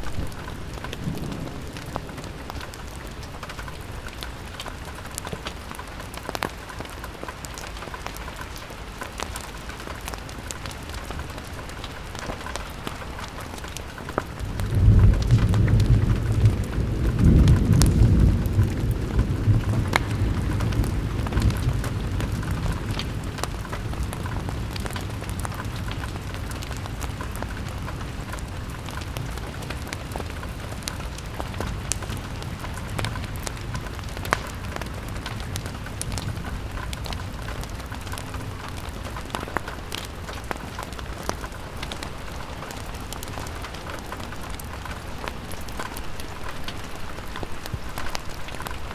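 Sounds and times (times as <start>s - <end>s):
fireplace crackles: 0.0s - 48.9s
rain on a window: 0.0s - 48.9s.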